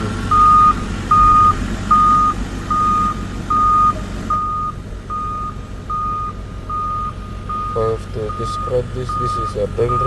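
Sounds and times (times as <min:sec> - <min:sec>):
heavy vehicle engine rumble: 0:00.0 - 0:10.0
reversing alarm beeping: 0:00.3 - 0:10.0.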